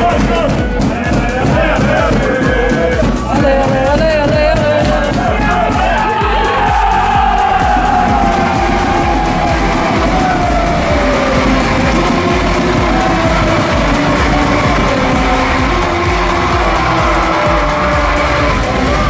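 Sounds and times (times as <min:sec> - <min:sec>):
loud music with steady beat: 0:00.0 - 0:19.0.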